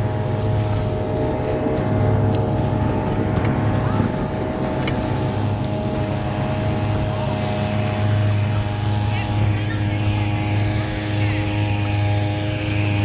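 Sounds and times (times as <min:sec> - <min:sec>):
outboard motors droning: 0:00.0 - 0:13.0.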